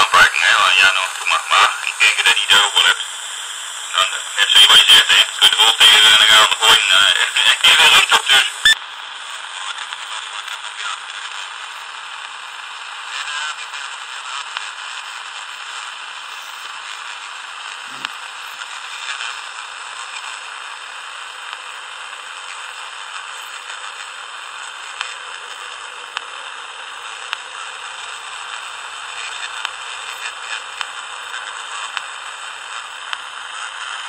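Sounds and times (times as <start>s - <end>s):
radio static hissing: 0.0s - 34.0s.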